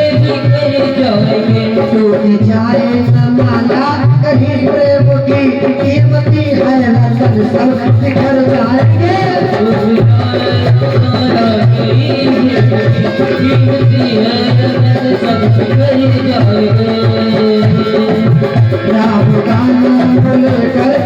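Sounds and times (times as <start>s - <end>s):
hand drum beat: 0.0s - 21.0s.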